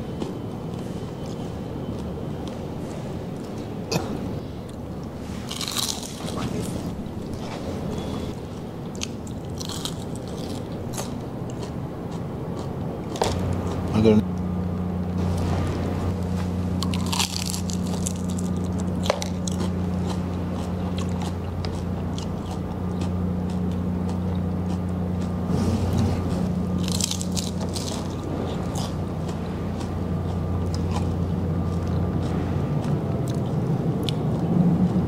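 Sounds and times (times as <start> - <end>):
low hum: 0.0 - 35.0
crunchy biting and chewing: 0.8 - 14.0, 16.3 - 35.0.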